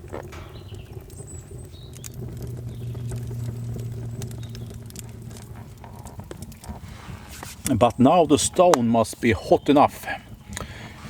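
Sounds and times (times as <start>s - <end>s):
low steady hum: 0.0s - 11.0s
wood fire crackling and popping: 0.0s - 11.0s.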